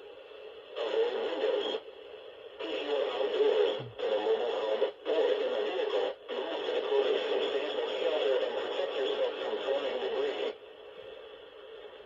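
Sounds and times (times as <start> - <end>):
muffled noisy radio audio: 0.0 - 12.0.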